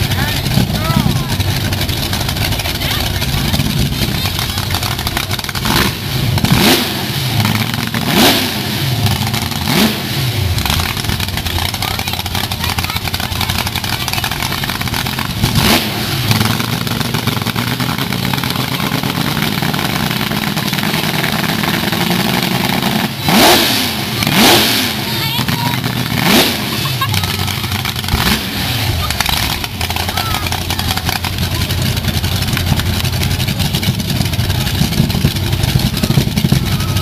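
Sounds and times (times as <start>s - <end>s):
car engines rumbling: 0.0s - 37.0s
engine revving: 0.0s - 37.0s.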